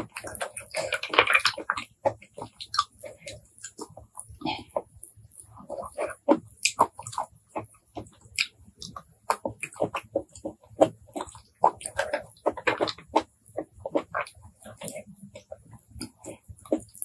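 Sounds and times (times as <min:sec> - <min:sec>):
wet chewing and slurping: 0:00.0 - 0:17.0.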